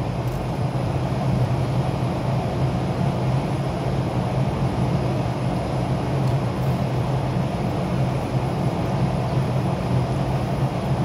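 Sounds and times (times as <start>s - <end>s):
low mechanical hum of city: 0.0s - 11.0s.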